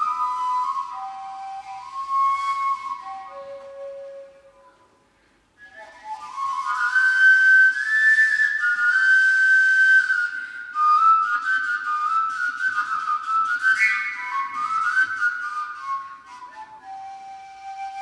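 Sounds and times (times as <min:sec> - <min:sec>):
folk whistle melody: 0:00.0 - 0:04.9, 0:05.6 - 0:18.0.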